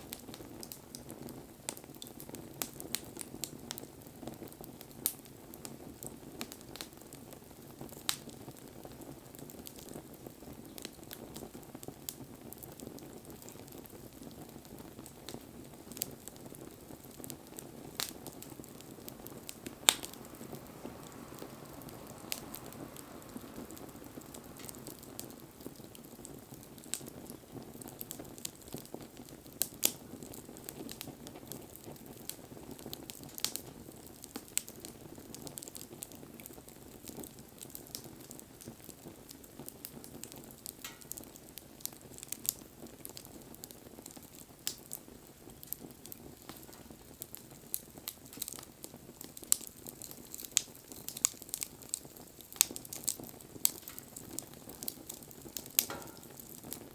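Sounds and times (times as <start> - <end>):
campfire crackling and popping: 0.0 - 56.9
fire hissing: 0.0 - 56.9.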